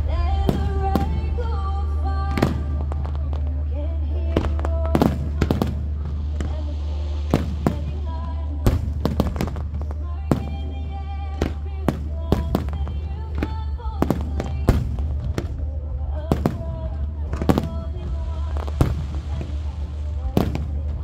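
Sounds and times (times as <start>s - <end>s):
fireworks bursting: 0.0s - 21.0s
loud music soundtrack: 0.0s - 21.0s.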